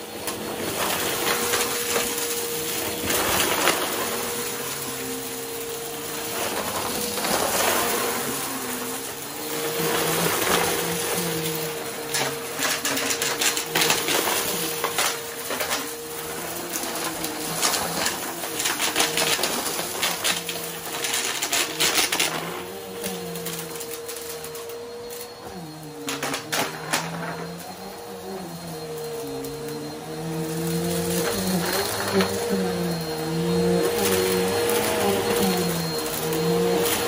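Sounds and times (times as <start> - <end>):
upright vacuum running: 0.0 - 37.0.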